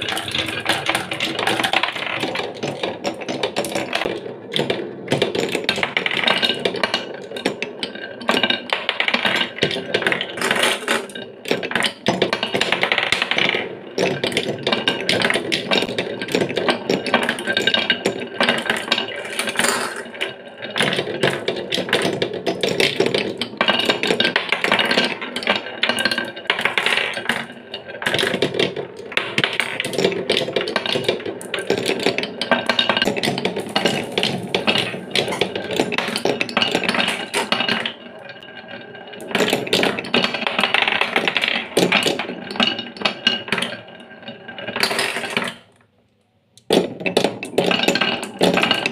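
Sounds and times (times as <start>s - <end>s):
marbles clattering down wooden run: 0.0s - 45.8s, 46.6s - 48.9s.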